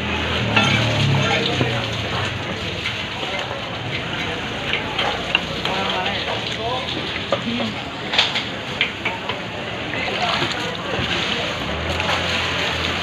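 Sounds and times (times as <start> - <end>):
faint voices: 0.0 - 13.0
running and splashing water: 0.0 - 13.0.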